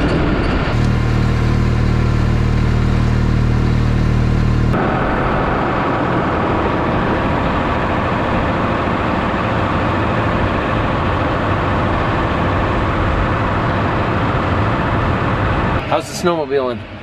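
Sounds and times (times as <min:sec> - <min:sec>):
tractor engine running: 0:00.0 - 0:16.1.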